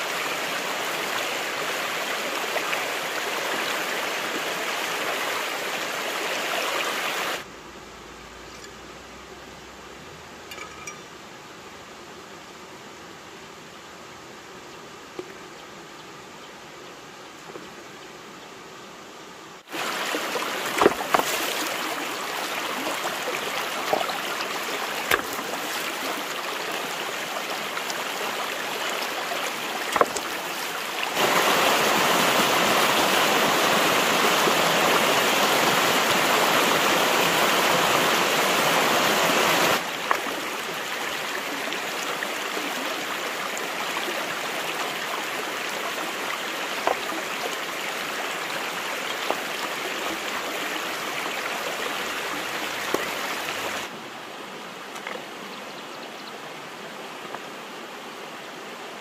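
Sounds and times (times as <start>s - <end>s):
stream water rushing: 0.0s - 7.5s, 18.6s - 59.0s.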